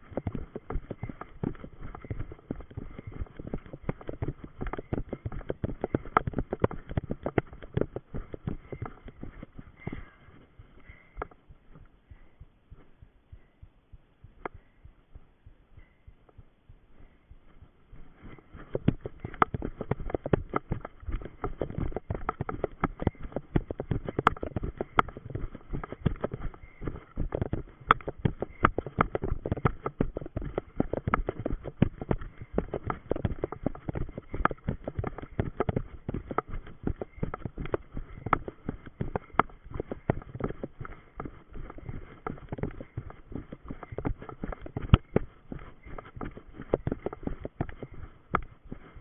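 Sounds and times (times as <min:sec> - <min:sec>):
running footsteps through undergrowth: 0:00.0 - 0:13.1, 0:17.0 - 0:49.0.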